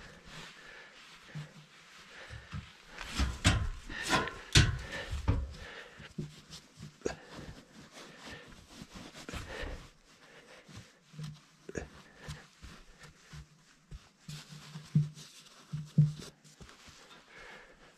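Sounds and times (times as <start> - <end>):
insulation rustling against wood: 0.0 - 17.9.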